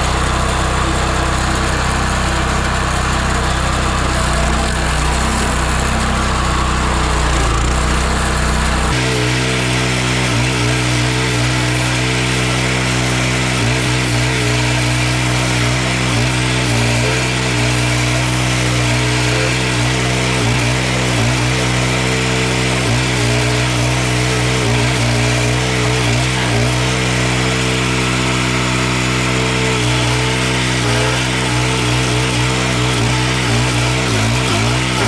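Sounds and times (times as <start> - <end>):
stump grinder engine running: 0.0 - 35.0.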